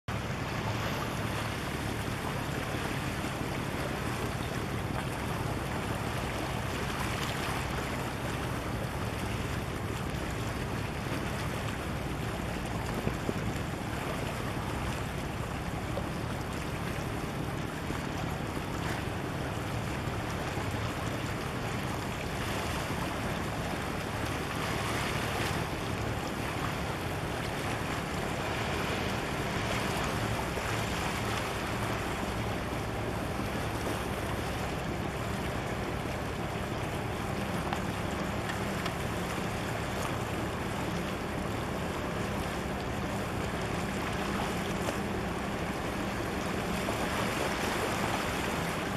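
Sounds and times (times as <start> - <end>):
sea water washing against concrete: 0.1 - 48.9.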